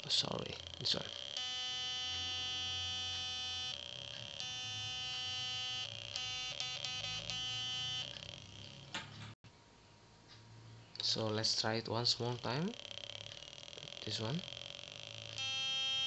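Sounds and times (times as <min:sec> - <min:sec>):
electronic buzzing tone: 0:00.0 - 0:09.4, 0:12.0 - 0:16.0.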